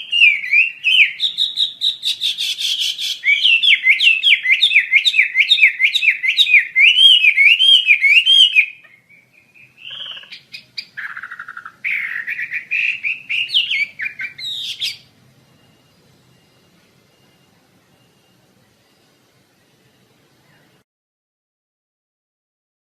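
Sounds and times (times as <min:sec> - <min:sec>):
songbird singing: 0:00.0 - 0:20.8.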